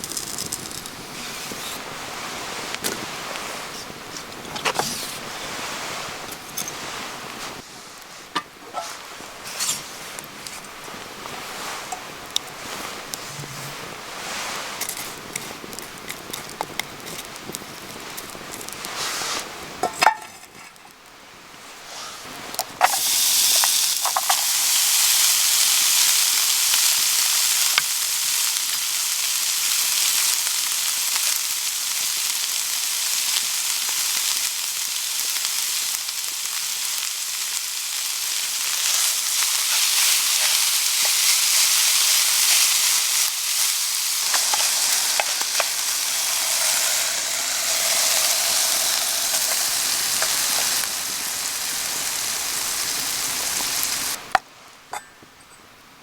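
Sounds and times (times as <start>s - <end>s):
food sizzling in a hot pan: 0.0s - 13.6s, 21.7s - 54.4s.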